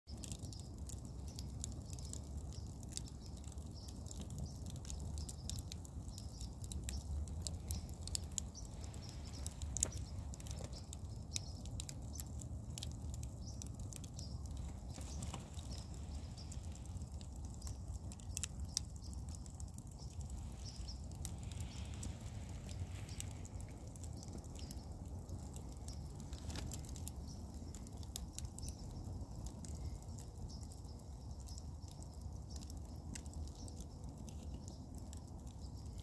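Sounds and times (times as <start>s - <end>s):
low rumble of flames: 0.1s - 36.0s
wood fire crackling and popping: 0.1s - 36.0s.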